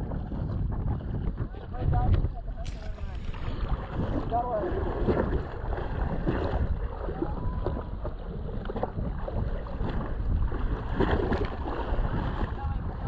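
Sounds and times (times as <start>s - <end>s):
water lapping at hull: 0.0s - 13.0s
wind buffeting microphone: 0.0s - 13.0s.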